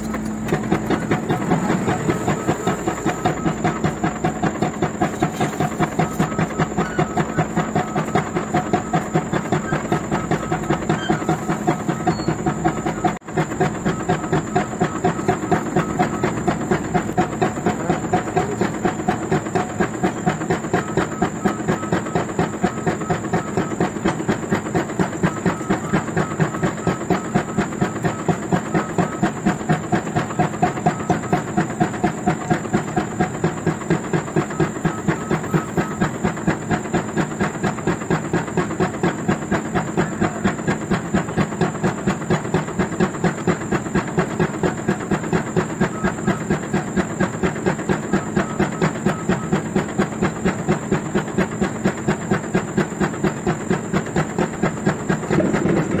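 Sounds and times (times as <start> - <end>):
pile-driving rig running: 0.0 - 56.0.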